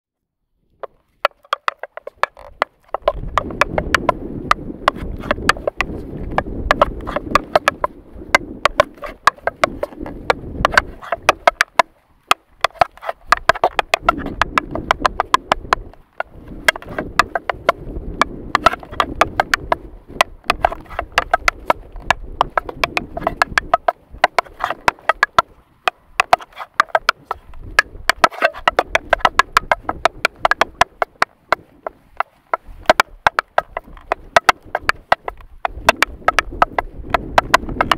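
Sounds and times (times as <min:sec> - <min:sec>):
tap shoes on concrete: 0:00.8 - 0:17.8, 0:18.5 - 0:37.9.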